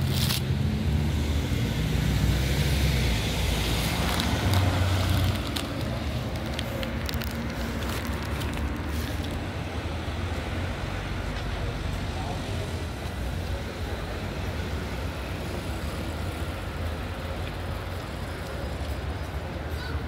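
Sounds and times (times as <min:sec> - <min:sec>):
cars passing at low speed: 0:00.0 - 0:19.7
background traffic noise: 0:00.0 - 0:20.0.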